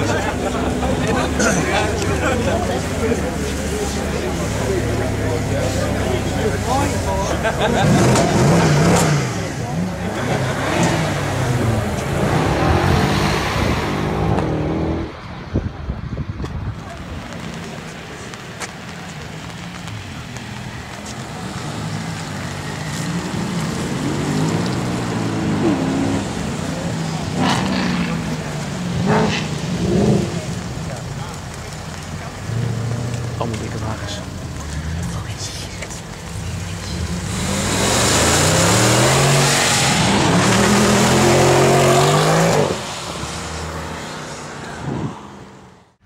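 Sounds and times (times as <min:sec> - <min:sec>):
car engine accelerating hard: 0:00.0 - 0:15.2, 0:19.4 - 0:45.8.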